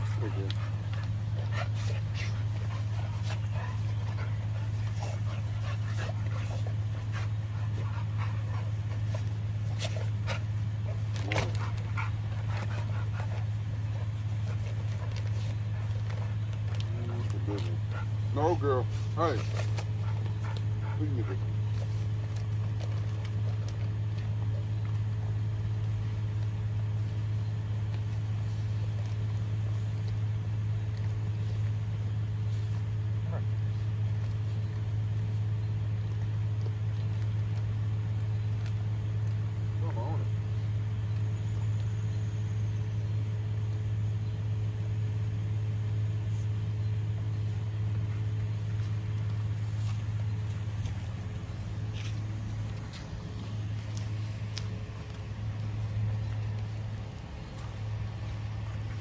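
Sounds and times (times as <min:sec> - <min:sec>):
dogs chewing raw chicken: 0:00.0 - 0:59.0
low mechanical hum: 0:00.0 - 0:59.0.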